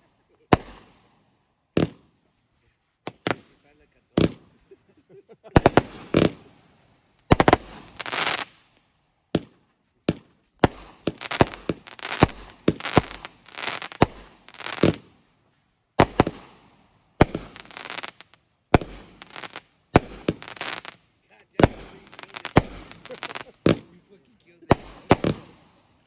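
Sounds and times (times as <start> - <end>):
fireworks bangs: 0.0 - 1.2, 1.8 - 2.2, 3.1 - 8.6, 9.4 - 15.3, 16.0 - 26.0
fireworks crackling: 0.0 - 26.0.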